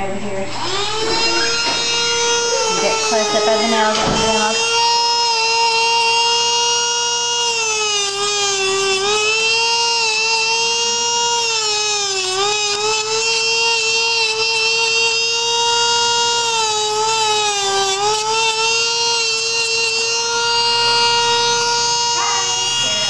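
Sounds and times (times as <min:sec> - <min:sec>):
nail grinder whining: 0:00.5 - 0:23.0.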